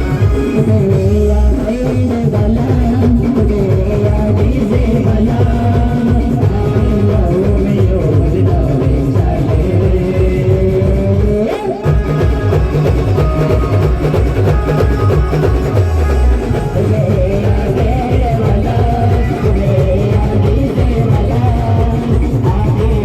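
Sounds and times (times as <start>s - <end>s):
heavy drum beat: 0.0s - 23.0s
held melody line: 0.0s - 23.0s.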